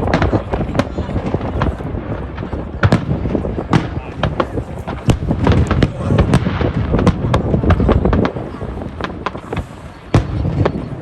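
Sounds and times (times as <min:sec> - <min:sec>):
crowd voices: 0:00.0 - 0:11.0
fireworks bangs and crackles: 0:00.0 - 0:11.0.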